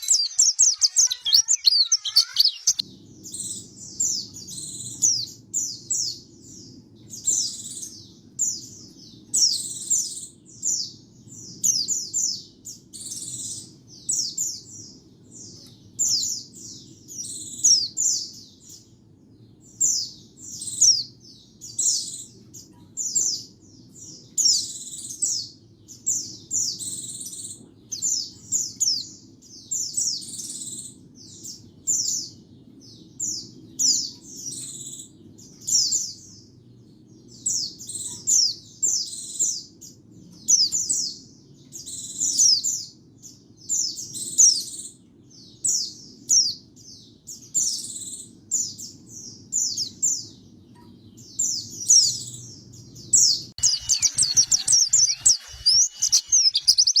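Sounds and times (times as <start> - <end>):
bird high chirps and twitters: 0.0 - 57.0.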